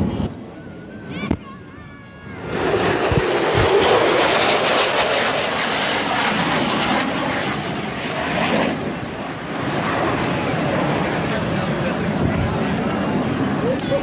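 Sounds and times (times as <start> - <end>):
aircraft flying past: 2.2 - 14.0.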